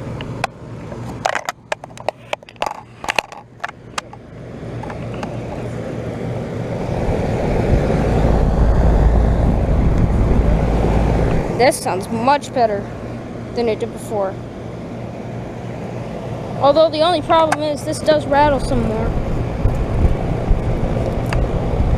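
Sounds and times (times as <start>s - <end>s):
air conditioner fan rushing: 0.0s - 21.9s
heavy low rumble: 2.6s - 21.9s.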